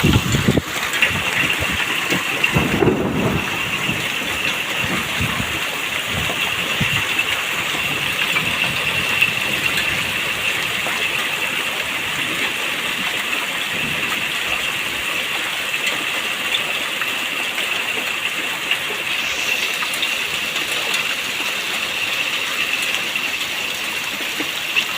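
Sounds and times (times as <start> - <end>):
hail and rain pelting: 0.0 - 24.9
hailstones ticking: 0.0 - 24.9.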